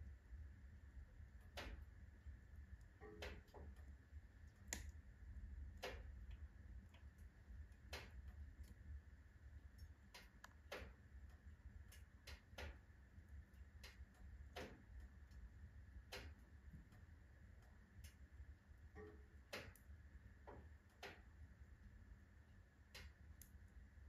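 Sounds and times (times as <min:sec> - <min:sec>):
low rumble of fire: 0:00.0 - 0:24.0
firewood crackling and popping: 0:01.3 - 0:21.6.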